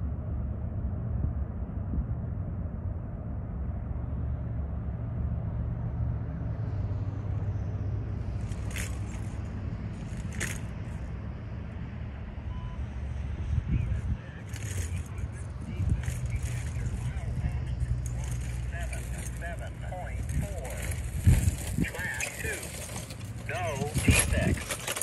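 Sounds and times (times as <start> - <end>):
engine idling: 3.8 - 25.0.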